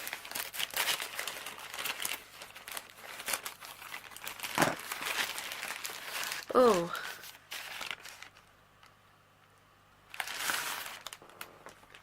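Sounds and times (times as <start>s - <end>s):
plastic envelope crinkling: 0.0s - 8.5s, 10.1s - 12.0s.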